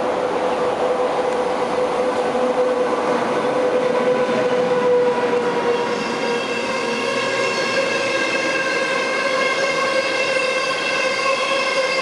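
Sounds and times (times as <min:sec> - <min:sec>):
locomotive hum: 0:00.0 - 0:12.0
train rolling noise: 0:00.0 - 0:12.0.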